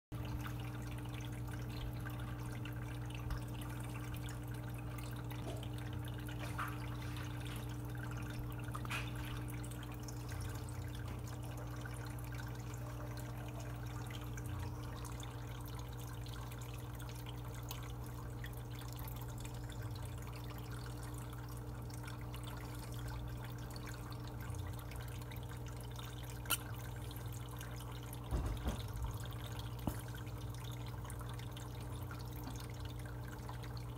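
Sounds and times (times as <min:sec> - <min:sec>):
aquarium hum: 0:00.2 - 0:33.9
water trickling and dripping: 0:00.2 - 0:33.9.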